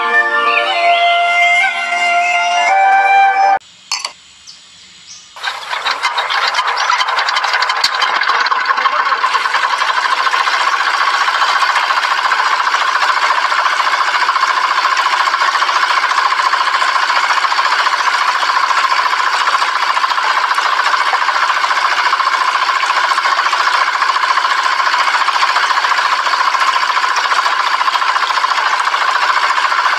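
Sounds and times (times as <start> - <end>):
small motor clattering: 5.4 - 29.9.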